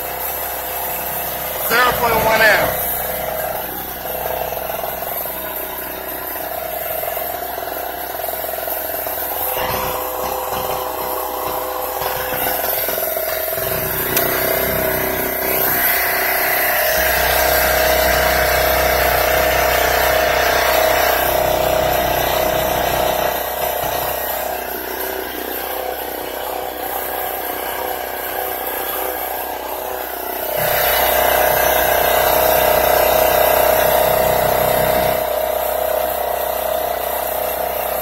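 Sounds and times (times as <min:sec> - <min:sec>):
portable generator engine running: 0:00.0 - 0:38.0.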